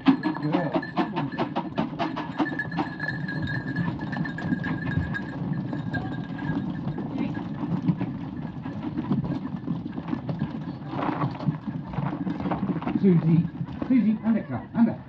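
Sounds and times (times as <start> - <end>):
goat hooves clicking: 0.0 - 14.6.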